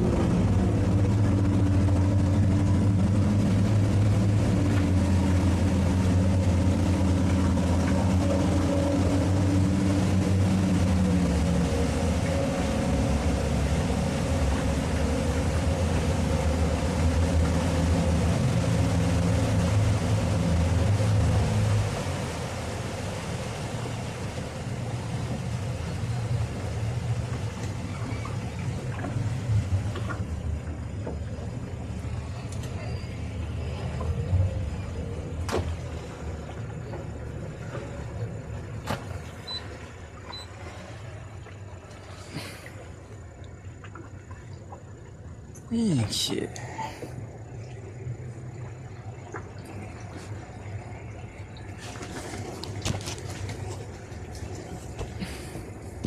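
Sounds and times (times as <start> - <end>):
outboard motors running: 0.0 - 56.0
rushing wake water: 0.0 - 56.0.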